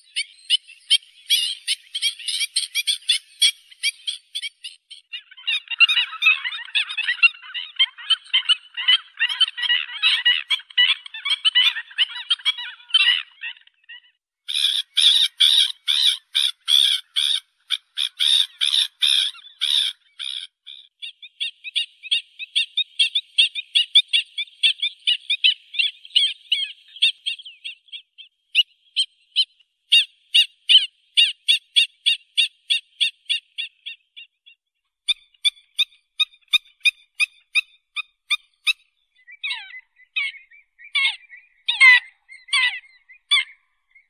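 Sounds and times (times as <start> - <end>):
birds yapping calls: 0.0 - 44.0.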